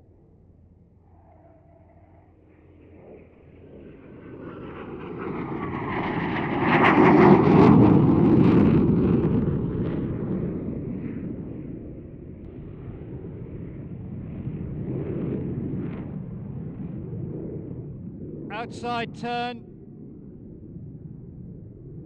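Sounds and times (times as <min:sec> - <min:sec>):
jet engine roaring in afterburner: 0:01.0 - 0:20.8.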